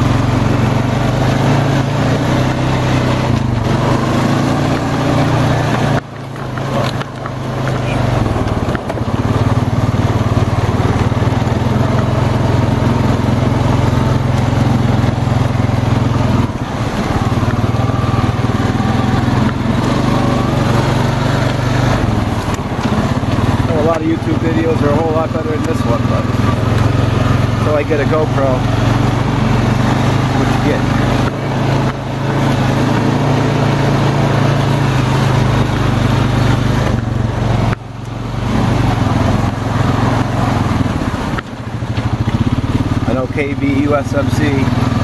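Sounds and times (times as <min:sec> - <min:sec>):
atv engine running: 0:00.0 - 0:45.0.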